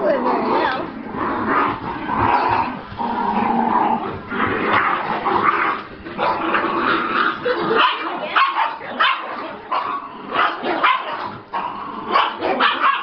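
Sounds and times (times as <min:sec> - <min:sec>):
dogs growling: 0:00.0 - 0:13.0.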